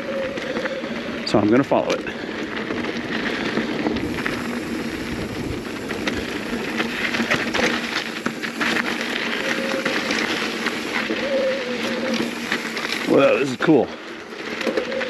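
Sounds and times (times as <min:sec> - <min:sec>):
bike clicks and rattles: 0:00.0 - 0:15.0
tyres crunching over gravel: 0:00.0 - 0:15.0.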